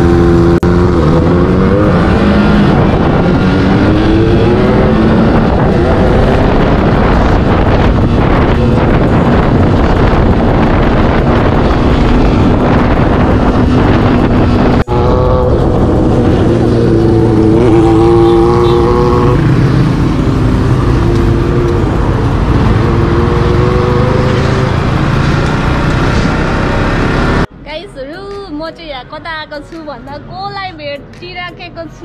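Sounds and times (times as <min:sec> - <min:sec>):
motorcycle engines running: 0:00.0 - 0:27.5.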